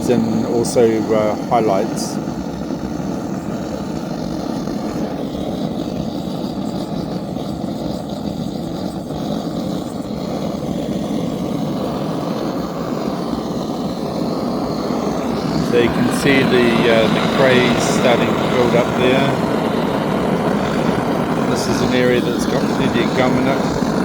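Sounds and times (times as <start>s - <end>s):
blowtorch flame rushing: 0.0s - 24.0s.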